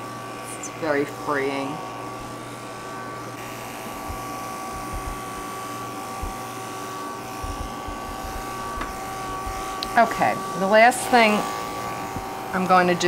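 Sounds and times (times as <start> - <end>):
electric clipper humming: 0.0 - 13.0.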